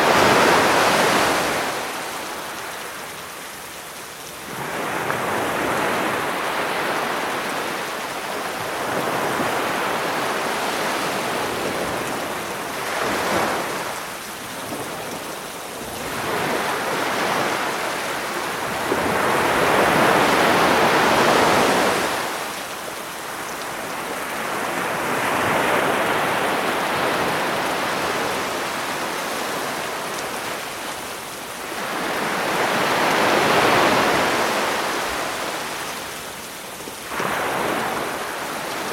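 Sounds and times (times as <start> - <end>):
rain: 0.0 - 38.9
sea waves washing on shore: 0.0 - 38.9.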